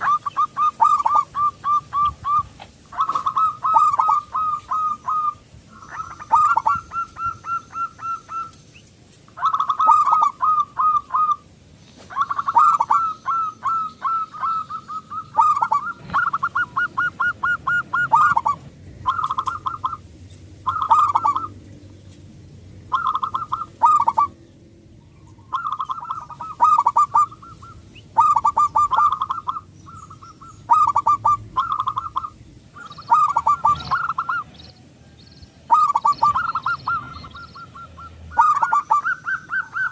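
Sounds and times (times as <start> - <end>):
dove cooing: 0.0 - 8.6, 9.4 - 21.6, 22.9 - 24.4, 25.1 - 39.9.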